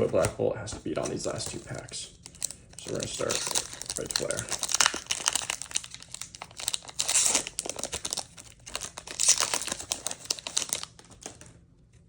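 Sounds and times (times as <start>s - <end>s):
foil wrapper crinkling: 0.0s - 11.6s.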